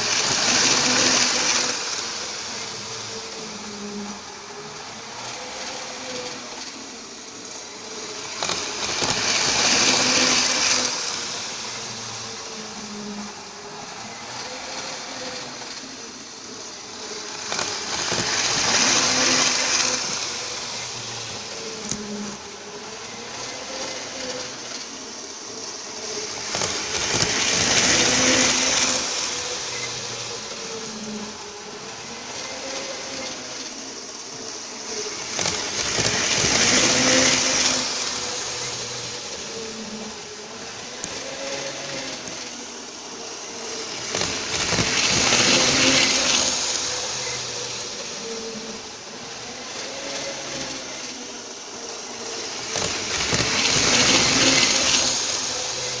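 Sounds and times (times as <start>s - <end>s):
electric motor whine: 0.0s - 56.0s
train wheels rumbling on track: 0.0s - 56.0s.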